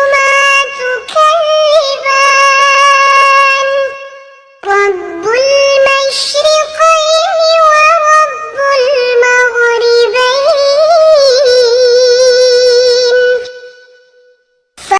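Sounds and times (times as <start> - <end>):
girl reciting in sung style: 0.0 - 14.9.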